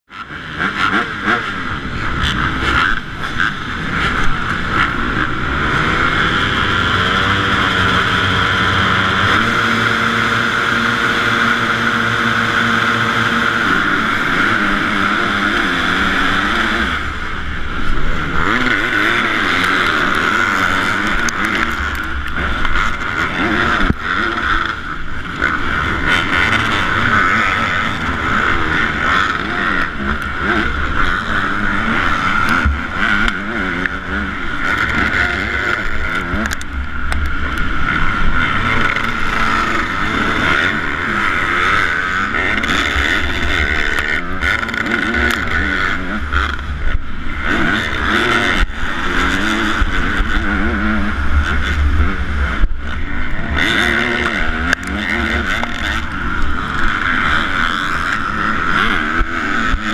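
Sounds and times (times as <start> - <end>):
motocross bike engines revving: 0.1 - 59.9.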